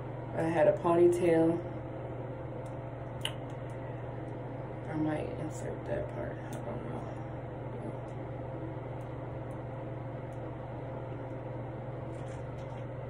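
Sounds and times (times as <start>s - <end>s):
appliance fan hum and hiss: 0.0s - 13.0s.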